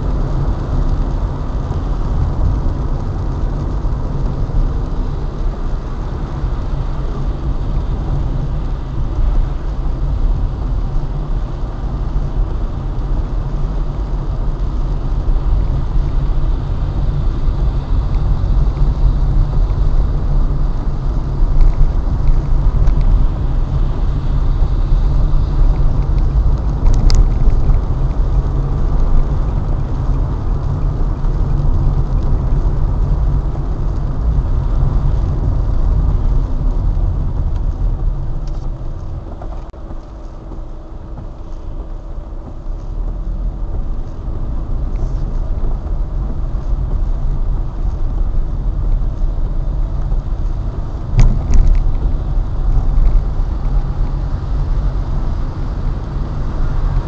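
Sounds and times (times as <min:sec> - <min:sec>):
engine and road noise rumble: 0:00.0 - 0:57.0.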